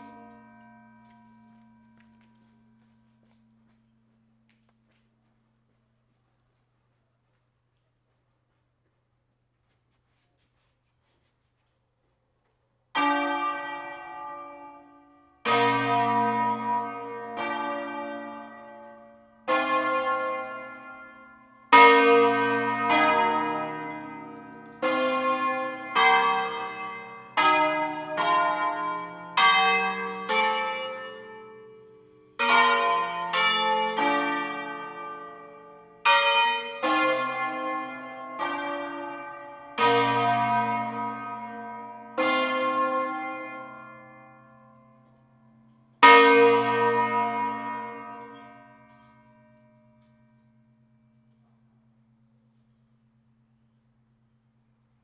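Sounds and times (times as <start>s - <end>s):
church bells ringing melody: 0.0s - 4.6s, 12.9s - 53.6s.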